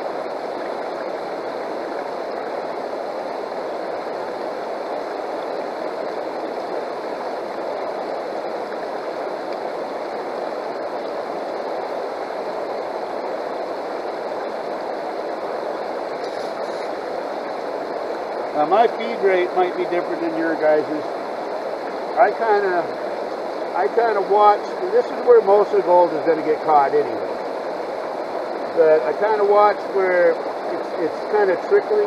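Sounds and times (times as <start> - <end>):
river water flowing over rocks: 0.0 - 32.0.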